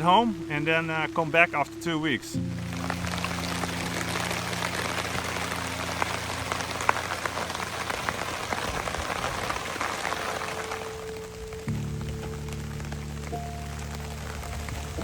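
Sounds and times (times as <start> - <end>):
raindrops ticking on a surface: 0.0 - 15.0
steady rain falling: 0.0 - 15.0.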